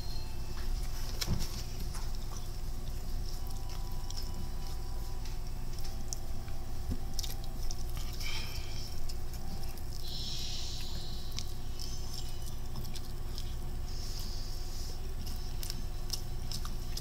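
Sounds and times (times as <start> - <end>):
chewing fried chicken: 0.6 - 17.0.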